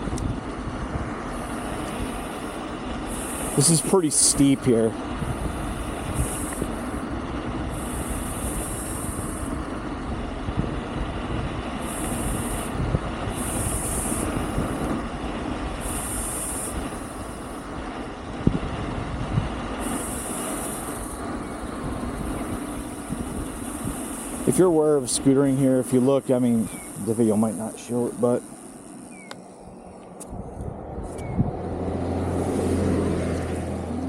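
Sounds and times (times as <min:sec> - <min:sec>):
wind noise: 0:00.0 - 0:32.0.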